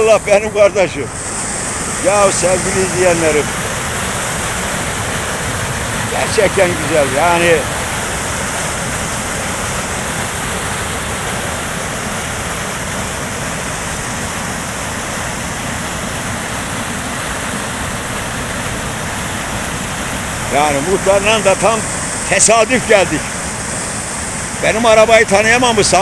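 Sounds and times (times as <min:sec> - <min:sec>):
small waterfall rushing: 0:00.0 - 0:26.0.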